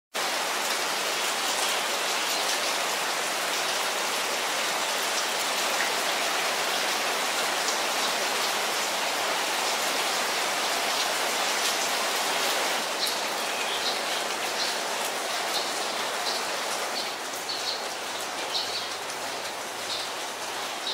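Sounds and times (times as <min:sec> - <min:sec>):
rain on foliage: 0:00.2 - 0:20.9.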